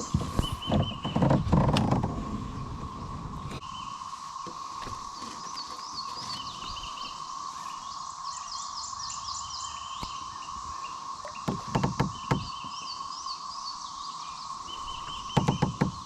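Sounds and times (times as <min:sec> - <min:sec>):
birds singing and calling: 0:00.0 - 0:16.0.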